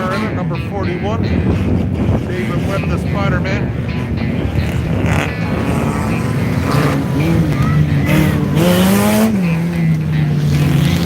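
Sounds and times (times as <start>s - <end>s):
car engine accelerating: 0.0s - 11.0s
stock car engines running: 0.0s - 11.0s
hissing tyre noise: 1.2s - 11.0s.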